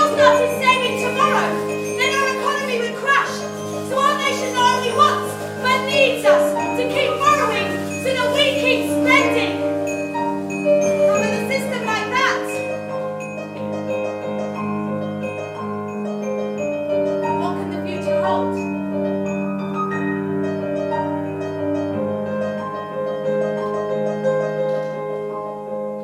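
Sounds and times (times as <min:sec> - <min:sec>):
piano music with held notes: 0:00.0 - 0:26.0.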